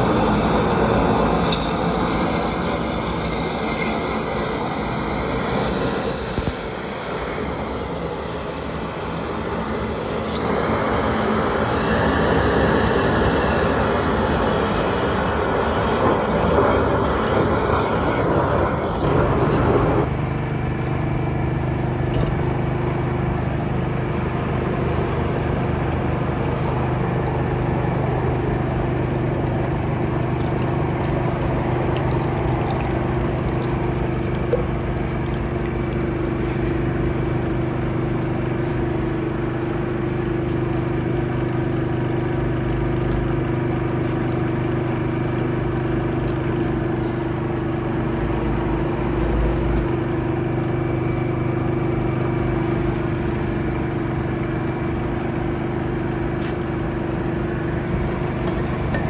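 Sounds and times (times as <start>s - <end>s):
drain-jetting machine humming: 0.0s - 59.0s.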